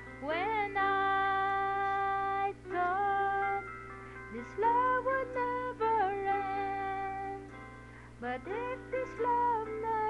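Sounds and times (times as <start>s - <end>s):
woman singing a slow ballad: 0.0s - 3.7s, 4.3s - 10.0s.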